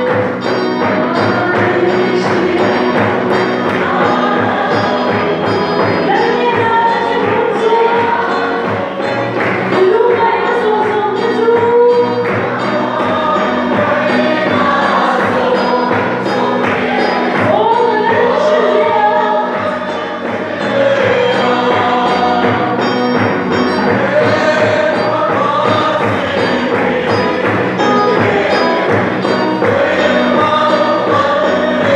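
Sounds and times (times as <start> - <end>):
group singing gospel song: 0.0 - 31.9
repeating drum beat: 0.0 - 31.9.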